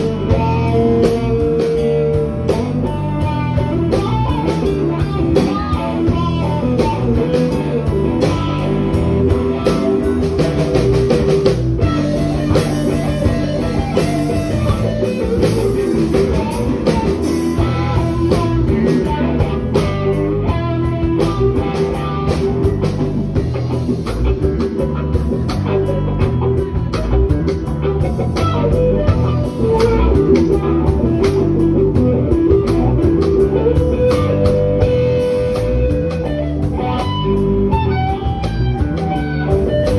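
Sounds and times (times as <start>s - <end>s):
lead electric guitar: 0.0s - 39.9s
live blues band: 0.0s - 39.9s.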